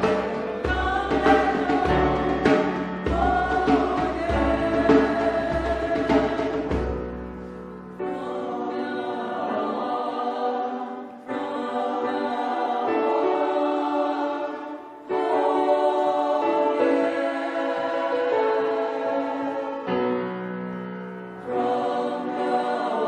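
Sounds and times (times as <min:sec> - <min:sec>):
choir singing sustained chords: 0:00.0 - 0:23.0.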